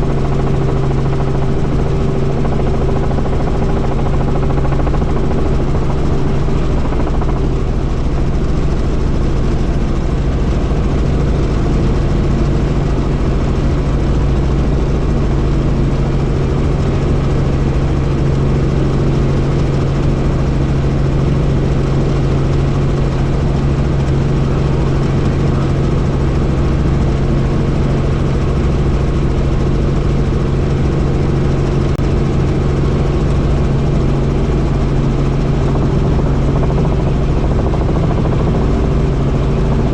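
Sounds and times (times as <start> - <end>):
helicopter engine and rotors droning: 0.0 - 39.9.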